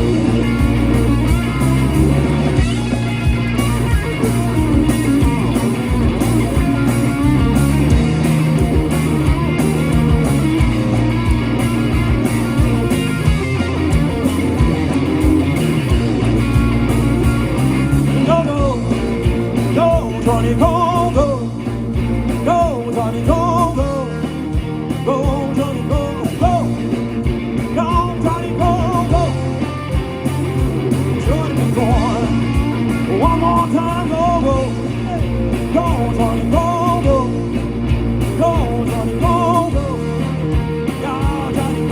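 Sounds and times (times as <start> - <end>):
electric guitar lead with bending notes: 0.0 - 41.9
live blues-rock band playing: 0.0 - 41.9.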